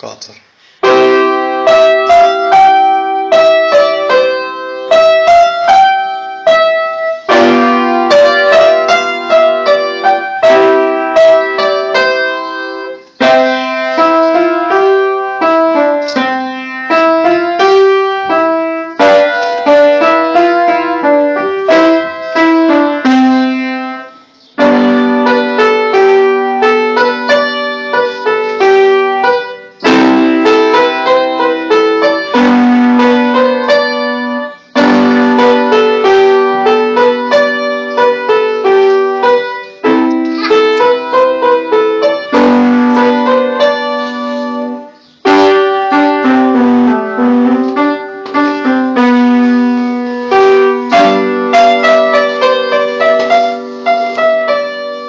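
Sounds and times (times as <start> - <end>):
piano-voiced keyboard melody: 0.8 - 55.0.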